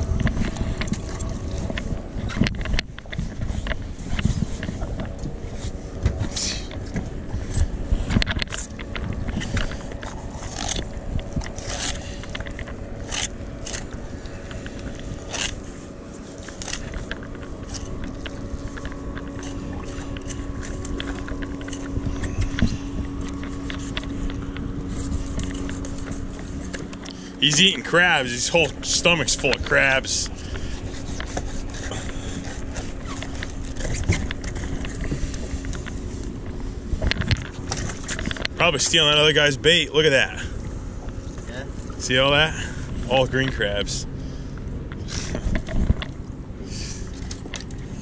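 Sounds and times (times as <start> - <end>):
low hum: 0.0 - 48.0.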